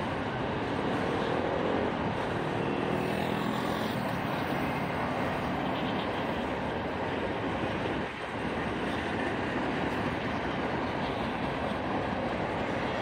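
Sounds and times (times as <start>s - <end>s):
steel wheels on rails: 0.0s - 13.0s.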